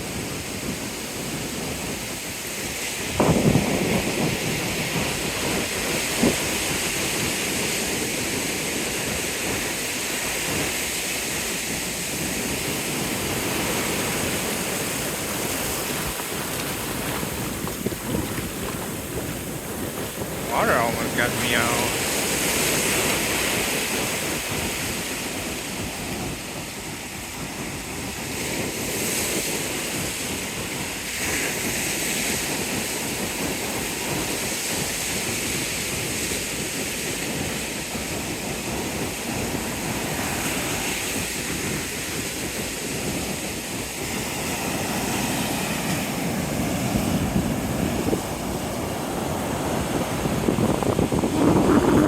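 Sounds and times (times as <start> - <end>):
ocean surf washing onto beach: 0.0 - 52.0
wind rumbling on microphone: 0.0 - 52.0.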